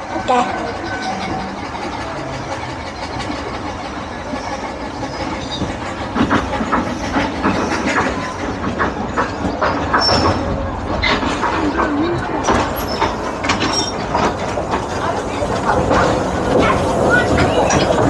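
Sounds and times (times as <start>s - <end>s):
train rumbling along track: 0.0s - 18.0s
wheels clicking over rail joints: 0.0s - 18.0s.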